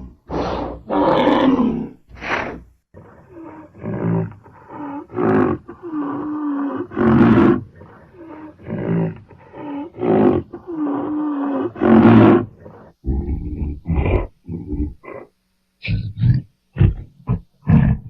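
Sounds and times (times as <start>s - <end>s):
rhinoceros grunts and bellows: 0.0s - 18.0s.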